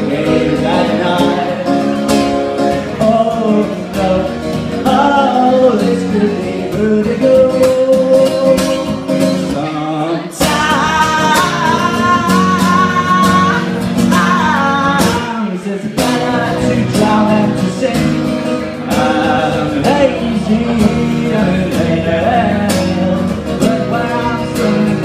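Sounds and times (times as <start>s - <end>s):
folk band music: 0.0s - 25.0s.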